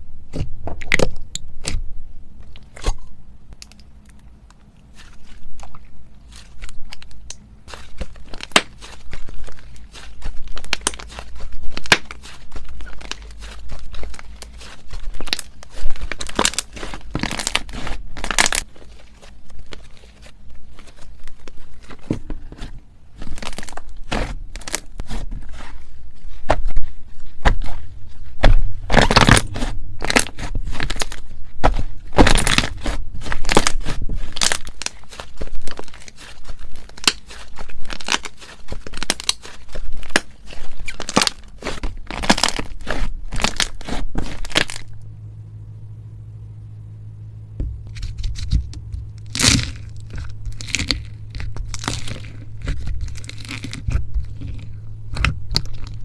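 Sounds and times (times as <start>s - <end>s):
low hum: 0.0s - 35.8s, 41.9s - 56.0s
slime crackling and popping: 0.3s - 1.8s, 2.5s - 25.7s, 26.4s - 45.0s, 47.6s - 56.0s.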